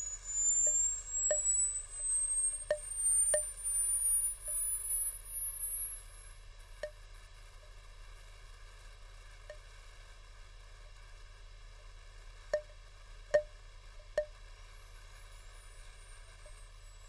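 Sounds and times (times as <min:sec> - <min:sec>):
tesla coil sine-wave sweep: 0:00.0 - 0:14.7.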